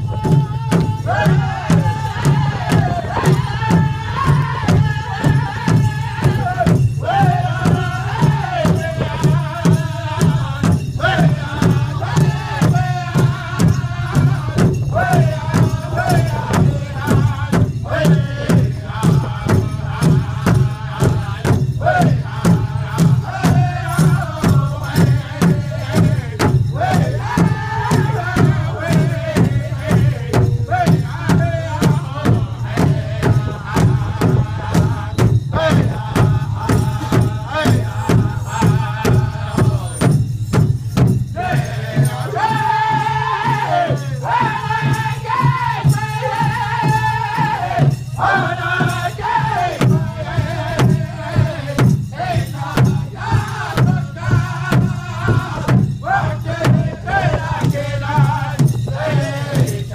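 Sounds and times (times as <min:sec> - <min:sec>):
group singing: 0:00.0 - 0:59.9
large drum beating: 0:00.0 - 0:59.9.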